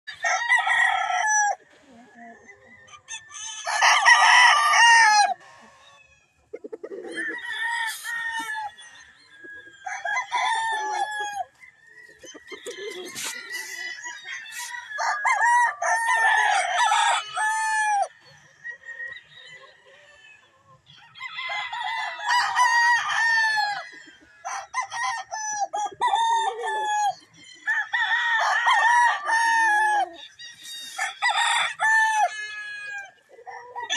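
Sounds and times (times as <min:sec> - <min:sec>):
rooster crowing: 0:00.1 - 0:01.6, 0:02.7 - 0:05.4, 0:07.1 - 0:19.1, 0:21.2 - 0:33.9.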